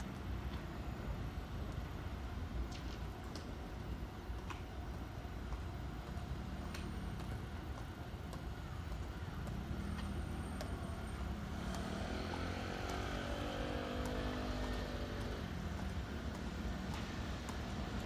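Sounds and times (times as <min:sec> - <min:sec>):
train traction motors whining: 0:00.0 - 0:18.0.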